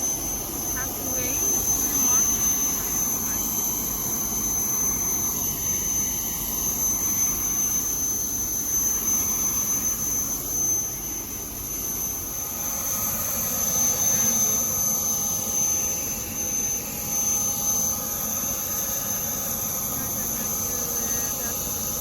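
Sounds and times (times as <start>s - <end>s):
turbine engine rushing with whine: 0.0s - 22.0s.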